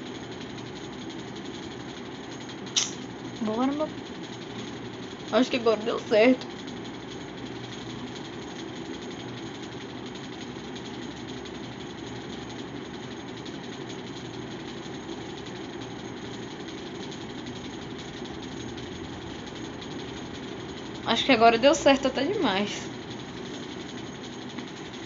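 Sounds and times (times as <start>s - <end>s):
steady mechanical hum with rattle: 0.0s - 25.0s.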